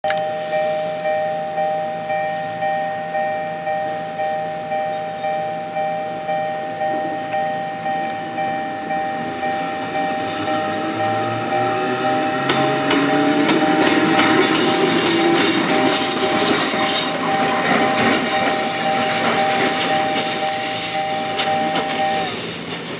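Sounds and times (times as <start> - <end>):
level crossing bell ringing: 0.0 - 22.6
electric train approaching: 0.0 - 22.9.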